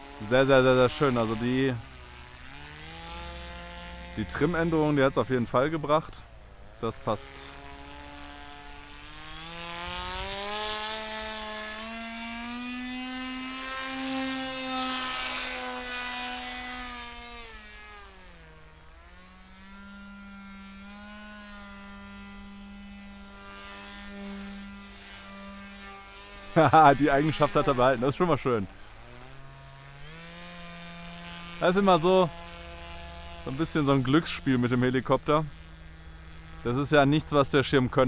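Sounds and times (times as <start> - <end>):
electric motor and propeller buzzing: 0.0 - 38.0.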